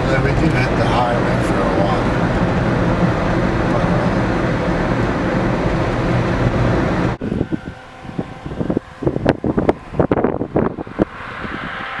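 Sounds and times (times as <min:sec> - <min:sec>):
car road and engine noise: 0:00.0 - 0:12.0
wind gusts on microphone: 0:01.4 - 0:12.0.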